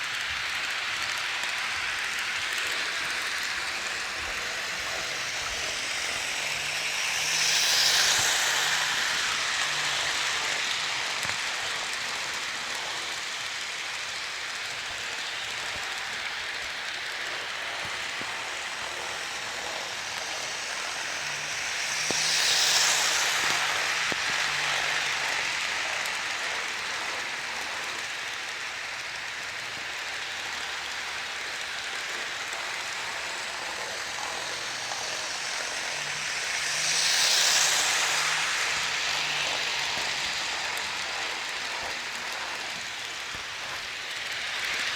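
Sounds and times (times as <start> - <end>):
model train wheels rolling: 0.0 - 44.9.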